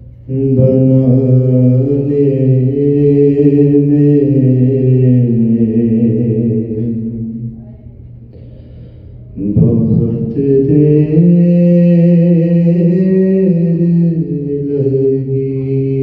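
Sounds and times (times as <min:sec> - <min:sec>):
man chanting into microphone: 0:00.3 - 0:08.0, 0:09.3 - 0:16.0.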